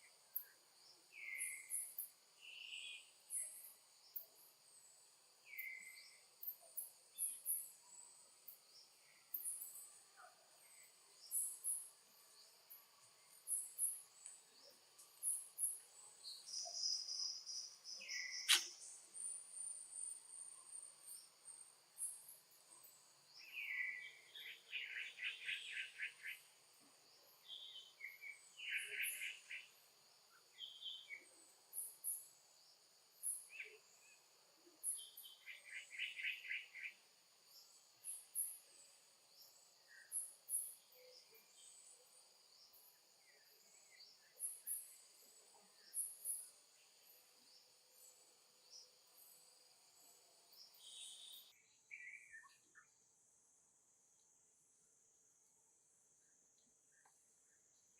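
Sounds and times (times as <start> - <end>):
insects droning: 0.0 - 52.4.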